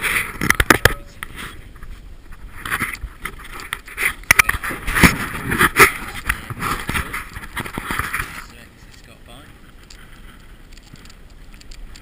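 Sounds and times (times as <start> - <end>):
choppy water around boat: 0.0 - 12.0
wind: 0.0 - 12.0.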